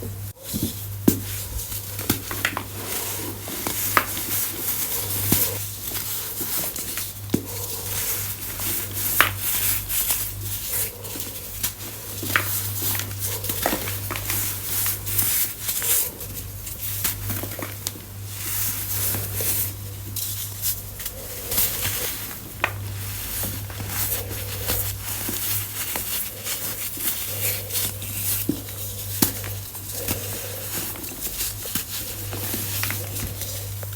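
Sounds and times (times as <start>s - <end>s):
crunching and crumbling: 0.0s - 33.9s
steady low hum: 0.0s - 33.9s.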